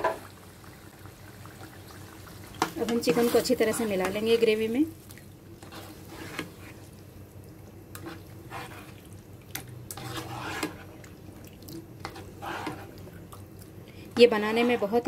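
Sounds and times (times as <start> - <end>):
squelching and sloshing gravy: 1.4 - 15.0.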